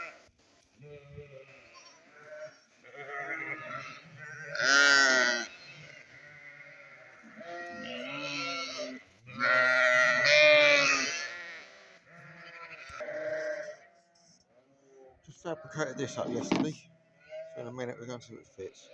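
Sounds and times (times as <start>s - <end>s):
sheep bleating: 0.0s - 18.9s.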